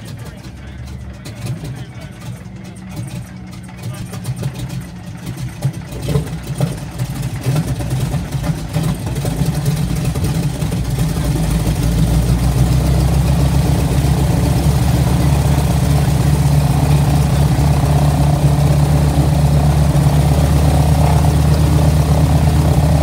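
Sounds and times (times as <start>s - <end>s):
radial aircraft engine starting: 0.0s - 23.0s.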